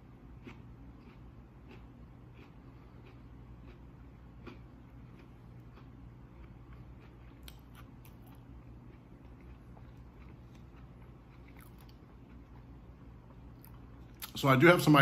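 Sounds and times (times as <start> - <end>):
steady low hum: 0.0 - 15.0
faint chewing: 0.4 - 14.4.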